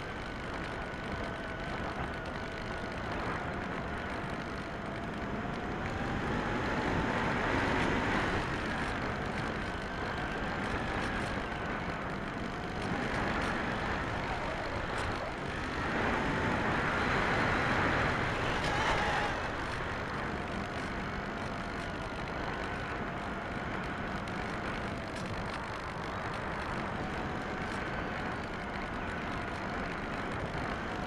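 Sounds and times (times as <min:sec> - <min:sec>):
electric motor and propeller whining: 0:00.0 - 0:31.0.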